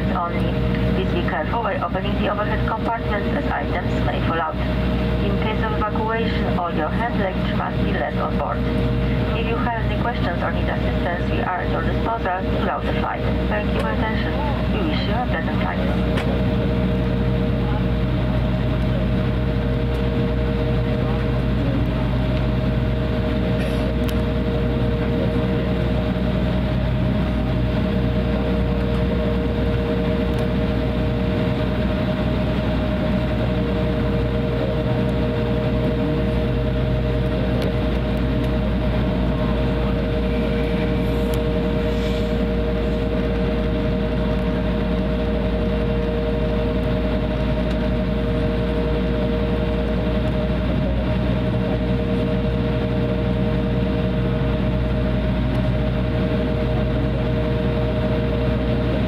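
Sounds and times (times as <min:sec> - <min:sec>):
aircraft cabin low rumble: 0:00.0 - 0:59.0
jet engine two-note whine: 0:00.0 - 0:59.0.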